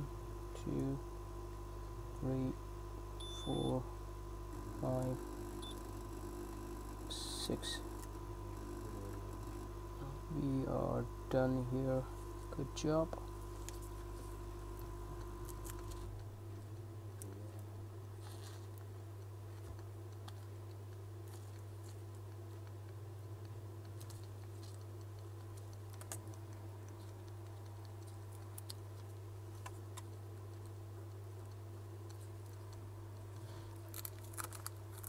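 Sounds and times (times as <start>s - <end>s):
low hum of bench equipment: 0.0s - 35.0s.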